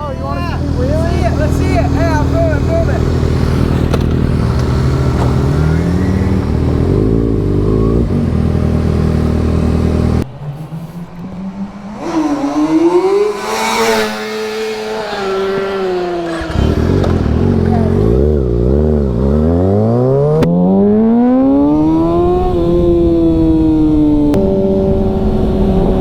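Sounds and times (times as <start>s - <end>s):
motorcycle engine revving high: 0.0s - 10.2s, 11.3s - 26.0s
motorcycle engines revving: 0.0s - 26.0s.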